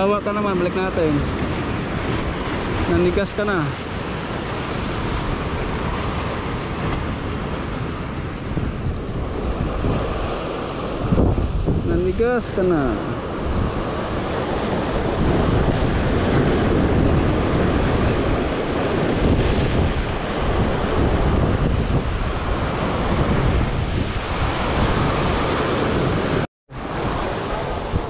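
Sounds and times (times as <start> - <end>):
wind buffeting microphone: 0.7 - 28.0.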